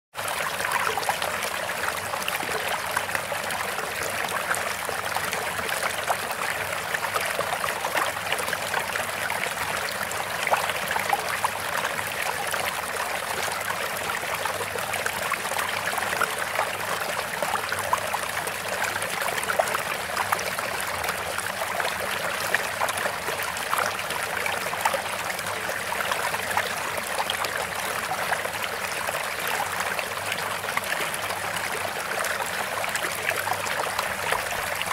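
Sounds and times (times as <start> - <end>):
stream babbling: 0.2 - 34.9.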